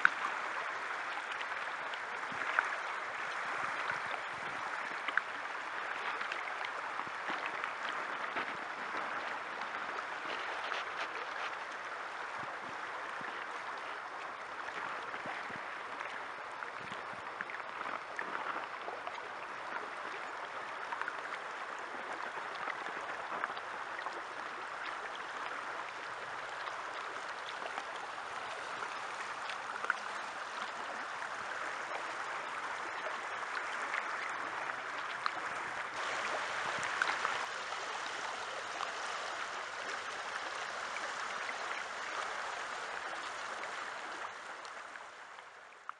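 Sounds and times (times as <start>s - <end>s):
river water rushing: 0.0s - 45.9s
small water splashes: 0.0s - 45.9s.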